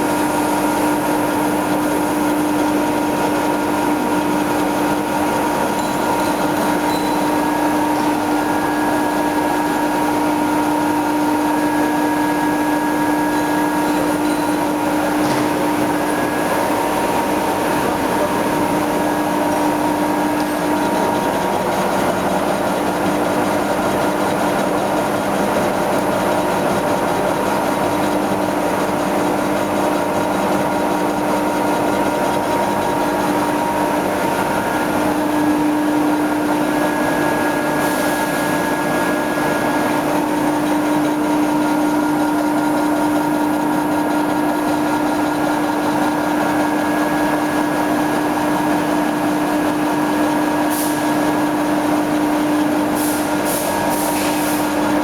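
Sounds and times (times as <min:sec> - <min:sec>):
lathe machine humming and whining: 0:00.0 - 0:55.0.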